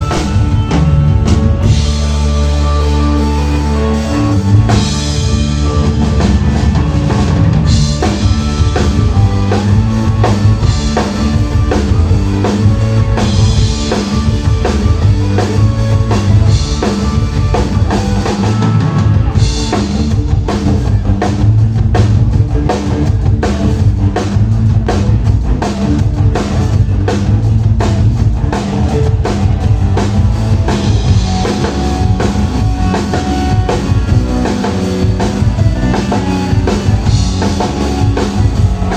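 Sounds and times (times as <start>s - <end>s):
drum kit hits: 0.0s - 38.9s
live rock band playing: 0.0s - 38.9s.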